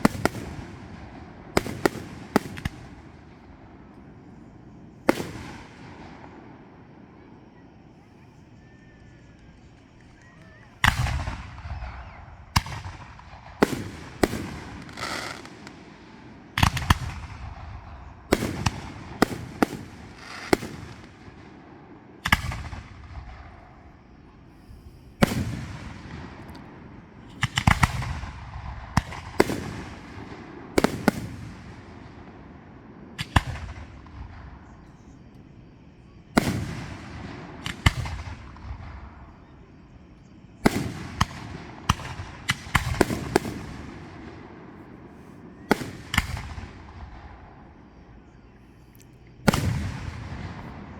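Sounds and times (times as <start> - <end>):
fireworks bangs: 0.0 - 48.5, 49.4 - 50.9.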